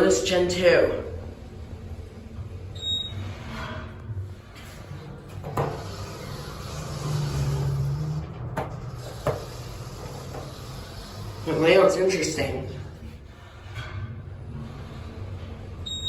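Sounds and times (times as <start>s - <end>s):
elevator doors sliding and closing: 0.0s - 16.0s
steady low hum: 0.0s - 16.0s.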